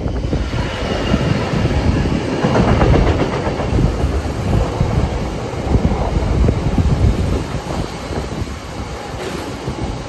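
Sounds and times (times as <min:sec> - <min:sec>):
train wheels rumbling over rails: 0:00.0 - 0:10.0.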